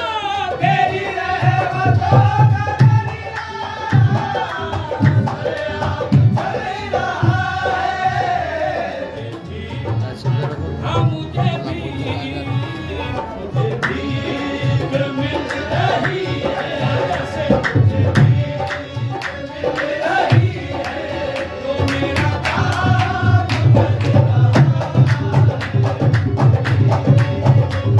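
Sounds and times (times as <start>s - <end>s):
harmonium chords: 0.0s - 27.9s.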